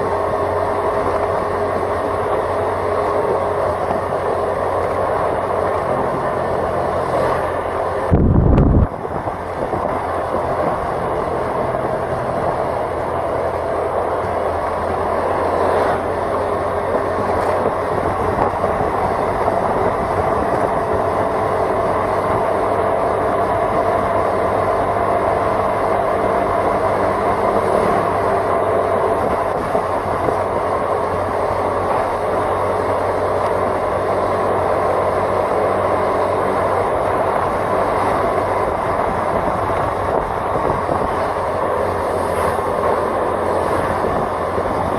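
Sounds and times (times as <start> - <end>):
tyre and road noise: 0.0 - 44.9
vehicle engine running: 0.0 - 44.9.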